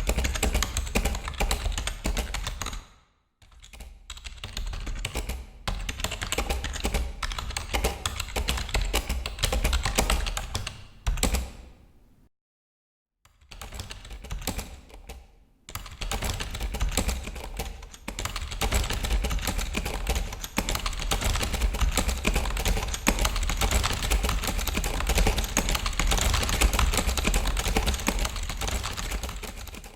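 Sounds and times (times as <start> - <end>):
fast typing on keyboard: 0.0 - 2.8, 3.4 - 11.6, 13.4 - 29.9.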